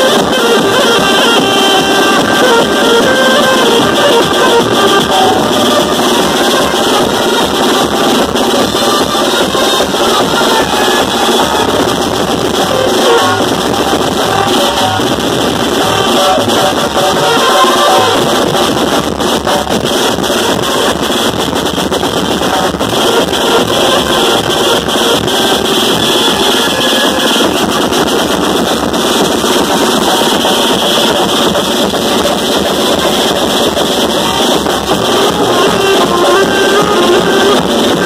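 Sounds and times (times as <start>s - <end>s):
bass drum beating: 0.0s - 38.0s
trumpets and saxophone playing: 0.0s - 38.0s.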